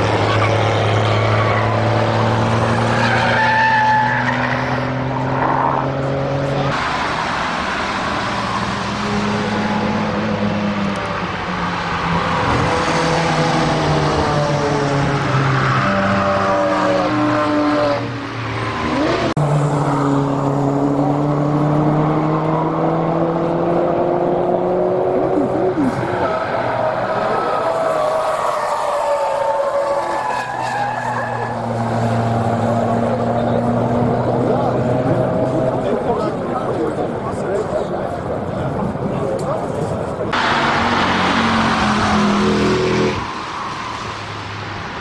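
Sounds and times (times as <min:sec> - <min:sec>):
vehicles driving past revving: 0:00.0 - 0:45.0.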